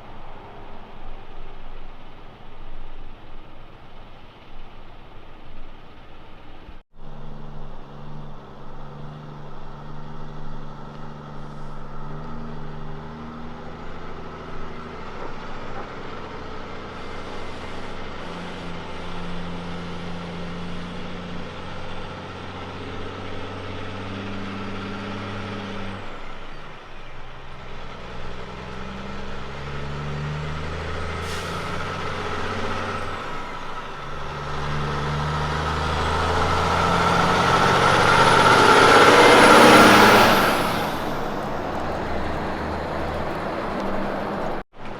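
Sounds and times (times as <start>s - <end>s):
diesel truck engine shifting gears: 6.9s - 44.9s.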